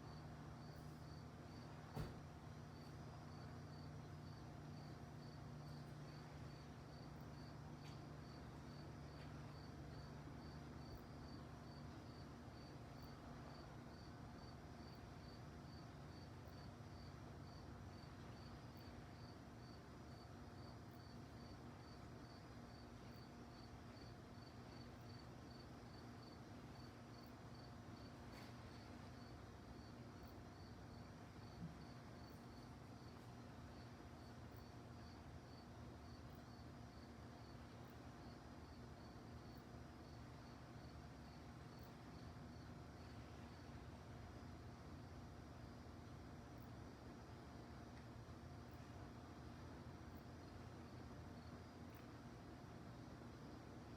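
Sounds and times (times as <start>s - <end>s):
cricket chirping: 0.0s - 52.3s.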